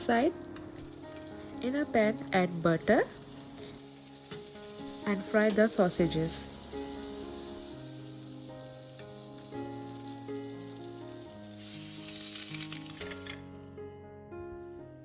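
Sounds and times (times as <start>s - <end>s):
sausages sizzling in a pan: 0.0s - 13.4s
soft background music: 0.0s - 15.0s.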